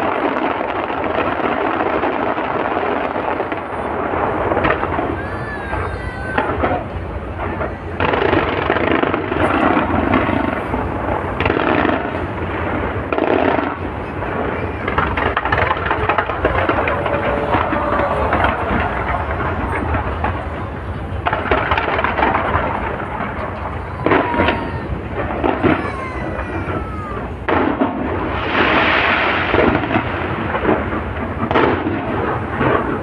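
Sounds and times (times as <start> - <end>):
crowd voices: 0.0 - 33.0
fireworks crackling and booming: 0.0 - 33.0.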